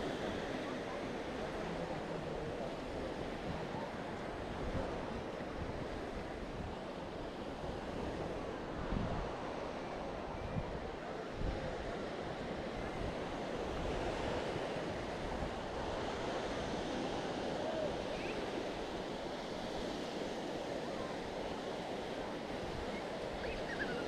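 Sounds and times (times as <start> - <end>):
sea waves washing onto beach: 0.0 - 24.0.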